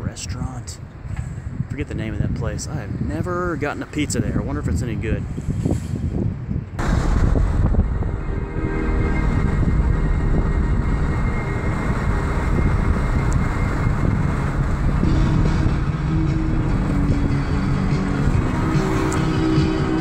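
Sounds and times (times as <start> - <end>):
car engine and tyres rumbling: 0.0 - 20.0
wind noise: 0.0 - 20.0.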